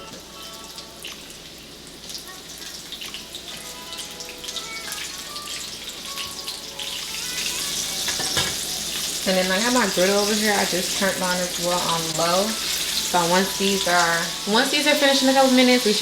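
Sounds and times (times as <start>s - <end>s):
fish frying in hot oil: 0.2s - 16.0s.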